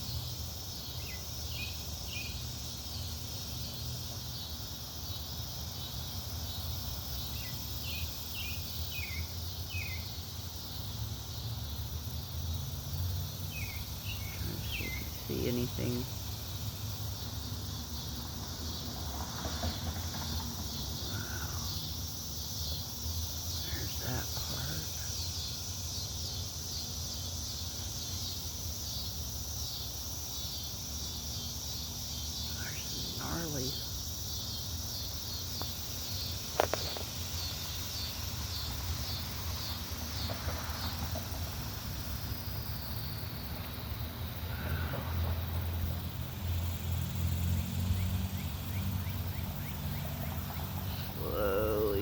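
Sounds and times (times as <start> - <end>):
cicadas droning: 0.0 - 52.0.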